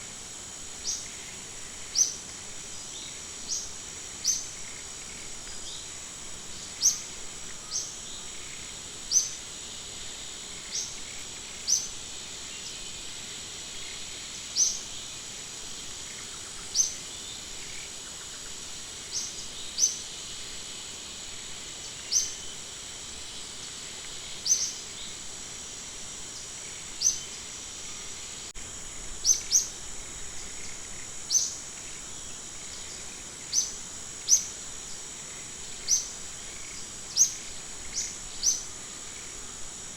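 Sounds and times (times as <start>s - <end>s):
high insect-like drone: 0.0s - 39.9s.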